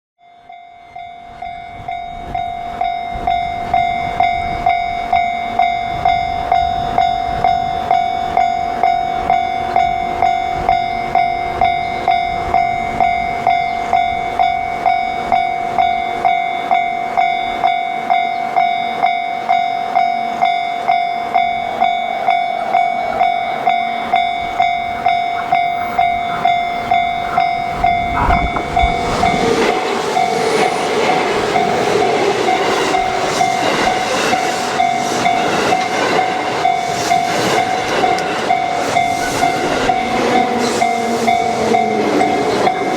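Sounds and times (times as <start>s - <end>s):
railroad crossing bell ringing: 0.2s - 42.9s
train rumble approaching: 1.3s - 42.9s.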